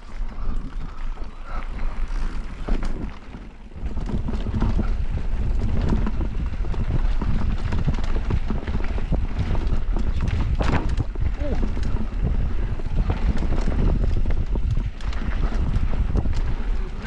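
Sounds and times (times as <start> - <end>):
bike rattling over rough ground: 0.0 - 17.0
wind buffeting microphone: 0.0 - 17.0.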